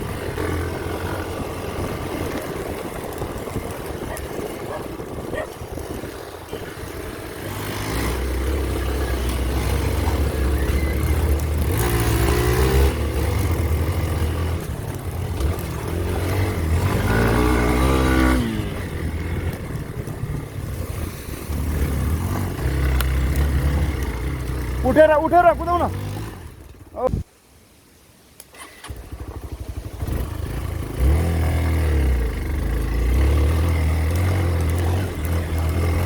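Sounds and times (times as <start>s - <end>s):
motorcycle engine revving: 0.0s - 27.1s, 28.5s - 36.0s.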